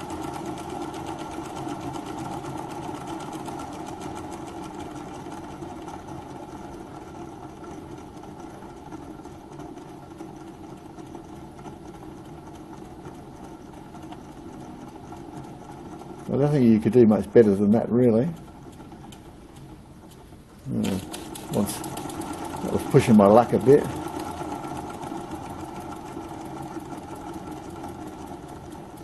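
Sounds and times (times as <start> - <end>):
steam engine ticking: 0.0 - 29.0.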